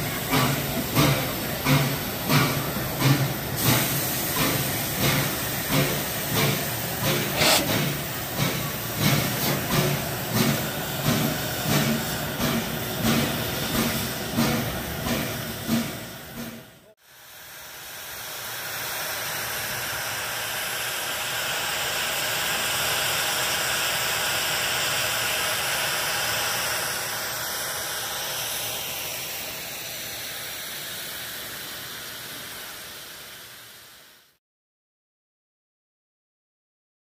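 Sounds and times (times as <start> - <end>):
steam locomotive venting steam: 0.0 - 34.4.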